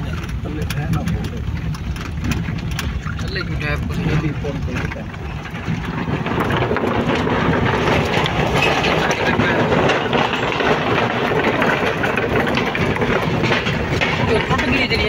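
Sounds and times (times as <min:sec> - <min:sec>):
car engine running: 0:00.0 - 0:15.0
tyres rumbling over wooden boards: 0:00.0 - 0:15.0.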